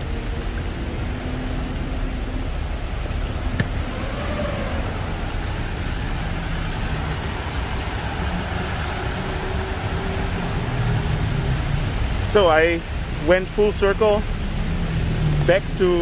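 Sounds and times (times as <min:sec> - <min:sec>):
bus and car engines: 0:00.0 - 0:16.0
tyres spraying through water: 0:00.0 - 0:16.0.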